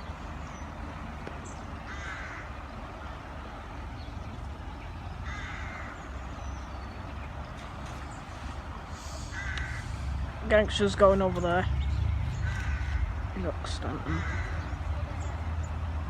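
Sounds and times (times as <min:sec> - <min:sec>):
bird calling: 0:00.0 - 0:16.0
steady low rumble: 0:00.0 - 0:16.0.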